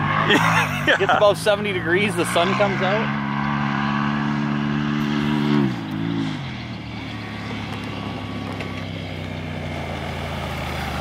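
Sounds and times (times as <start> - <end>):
engine revving then slowing: 0.0 - 11.0.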